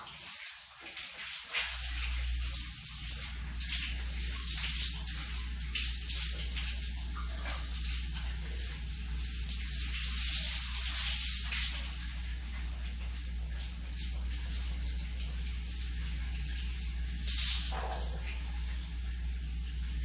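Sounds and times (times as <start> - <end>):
shower water running and splashing: 0.0 - 20.0.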